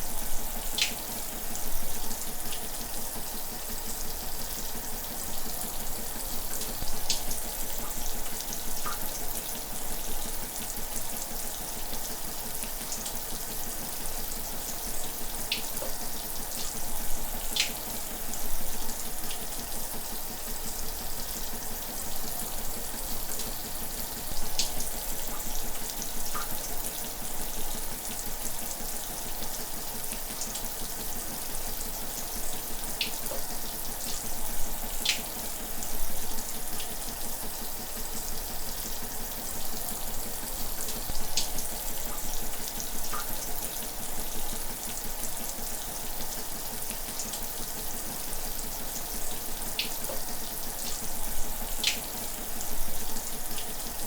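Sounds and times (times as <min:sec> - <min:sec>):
shower running: 0:00.0 - 0:54.0.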